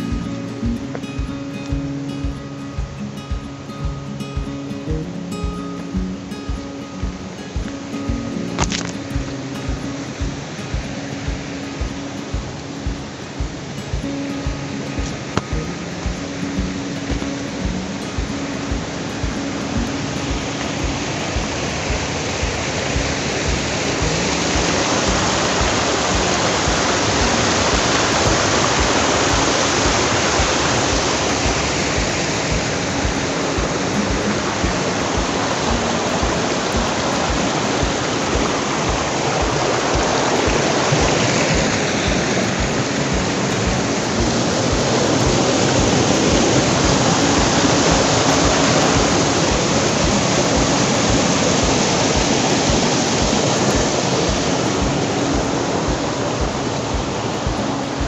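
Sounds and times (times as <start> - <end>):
rushing mountain stream: 0.0 - 58.0.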